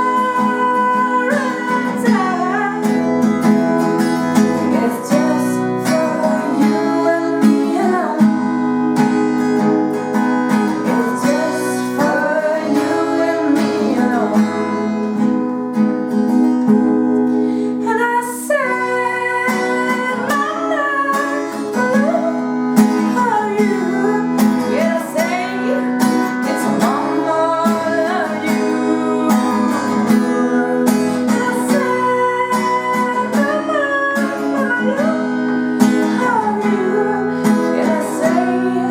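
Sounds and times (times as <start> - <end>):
person singing: 0.0 - 16.8, 17.5 - 38.9
acoustic guitar strumming: 0.0 - 38.9.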